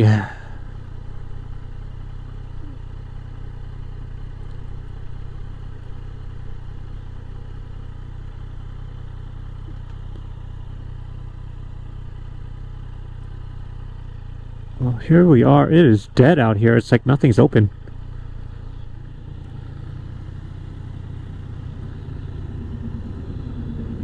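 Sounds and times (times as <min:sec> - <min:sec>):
motorcycle engine running at low revs: 0:00.0 - 0:24.0.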